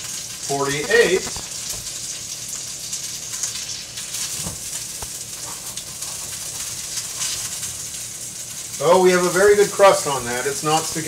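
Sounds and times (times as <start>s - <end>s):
steak sizzling in a skillet: 0.0s - 11.0s.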